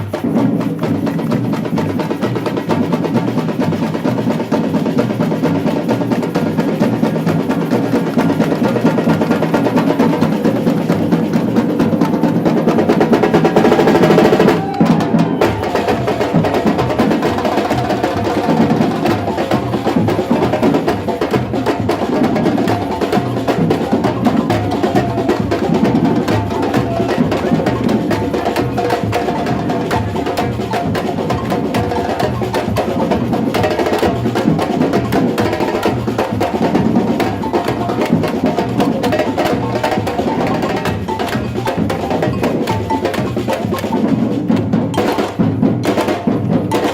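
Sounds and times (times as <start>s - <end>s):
samba percussion group drumming: 0.0s - 46.9s.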